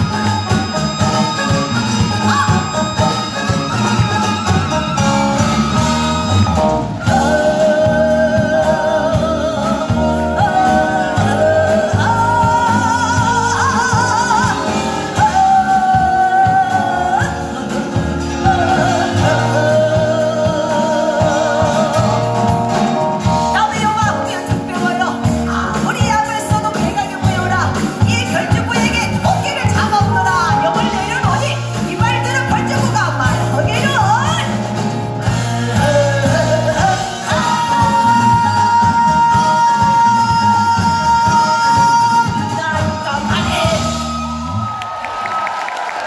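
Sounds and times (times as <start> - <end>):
woman singing with vibrato: 0.0 - 44.5.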